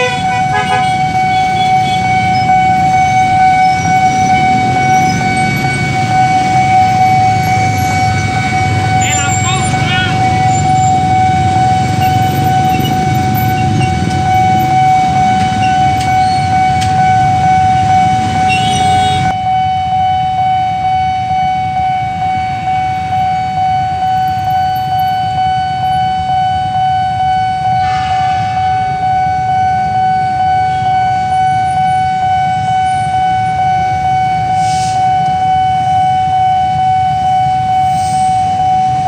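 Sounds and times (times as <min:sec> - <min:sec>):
level crossing alarm tone: 0:00.0 - 0:39.0.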